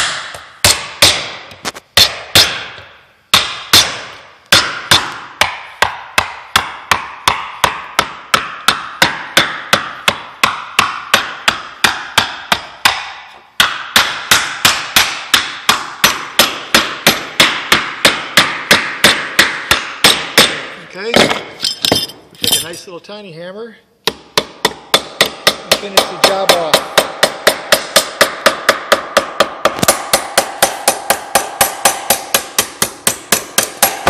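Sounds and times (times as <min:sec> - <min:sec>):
hammer knocking on wooden board: 0:02.0 - 0:22.1, 0:24.0 - 0:34.0.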